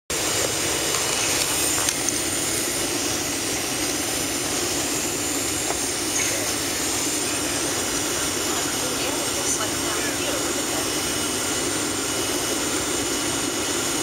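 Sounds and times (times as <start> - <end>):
airliner cabin engine roar: 0.1 - 14.0.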